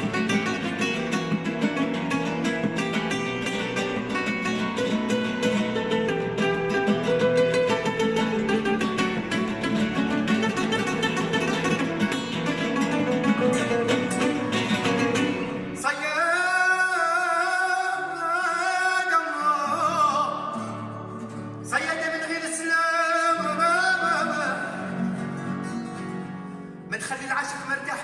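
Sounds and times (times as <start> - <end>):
song with plucked guitar: 0.0 - 28.0.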